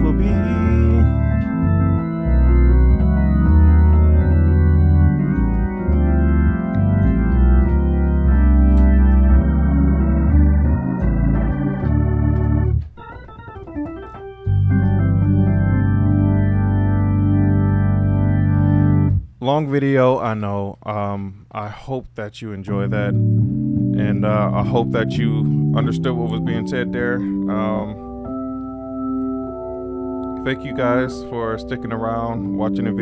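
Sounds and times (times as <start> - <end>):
organ chords: 0.0 - 21.2, 22.6 - 33.0
organ pedal bass notes: 0.0 - 21.2, 22.6 - 33.0.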